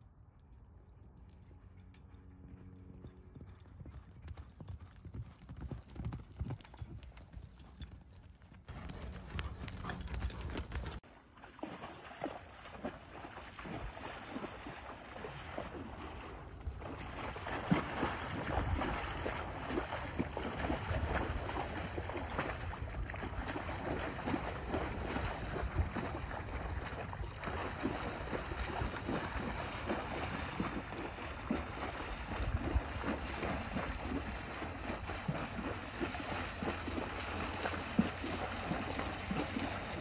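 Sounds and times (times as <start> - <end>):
horse hoofbeats on dirt: 1.0 - 11.0, 11.6 - 40.0
hooves splashing in water: 4.8 - 40.0.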